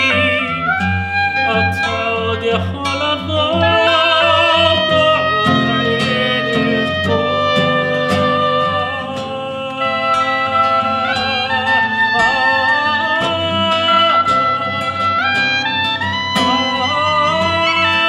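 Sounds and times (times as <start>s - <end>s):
classical guitar plucking: 0.0s - 18.0s
man singing long notes: 0.0s - 18.0s.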